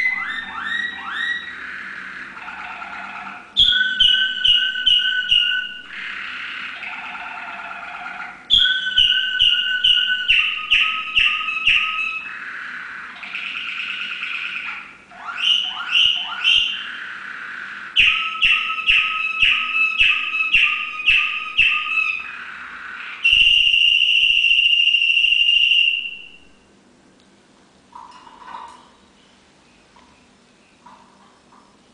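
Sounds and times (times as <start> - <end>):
canary singing: 0.0 - 26.5.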